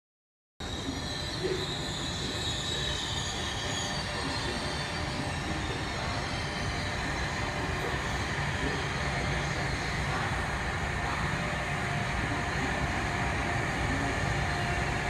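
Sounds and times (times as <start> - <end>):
high wheel squeal: 0.6 - 15.0
train wheels rumbling on rails: 0.6 - 15.0.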